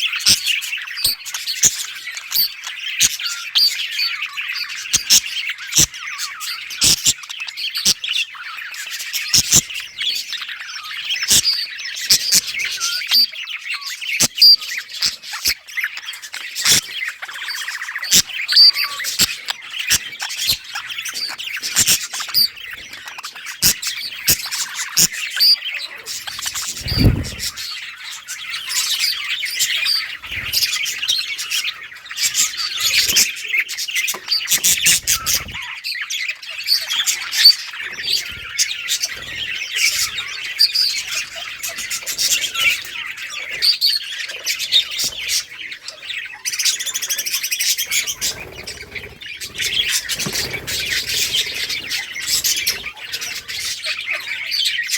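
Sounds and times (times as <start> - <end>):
budgerigars chirping and chattering: 0.0 - 54.9.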